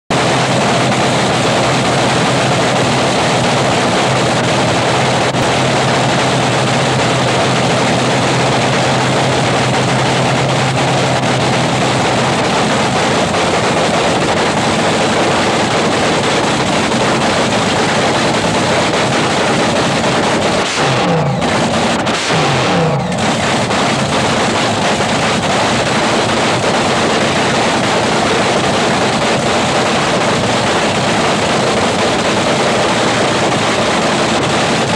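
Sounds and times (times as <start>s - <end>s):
dragster engine running loud: 0.0s - 34.9s.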